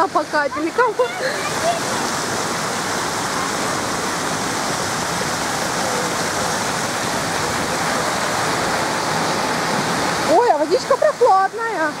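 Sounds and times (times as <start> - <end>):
falling and splashing water: 0.0 - 12.0.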